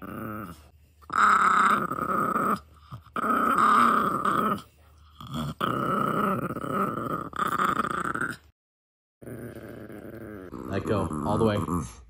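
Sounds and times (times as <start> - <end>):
dog growling: 0.0 - 8.5, 9.2 - 12.0.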